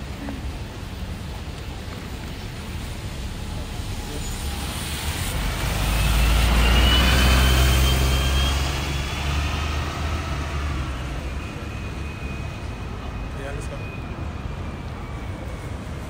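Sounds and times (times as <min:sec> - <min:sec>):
heavy vehicle engine rumble: 0:00.0 - 0:16.0.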